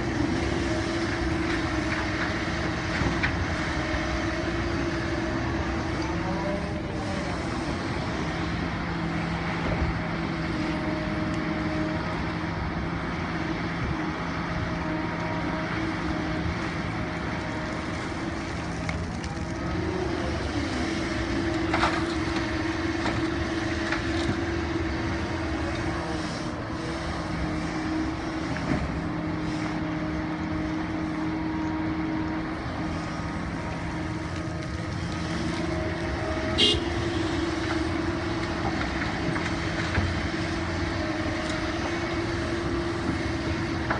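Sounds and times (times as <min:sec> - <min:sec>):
excavator engine and hydraulics: 0:00.0 - 0:43.9.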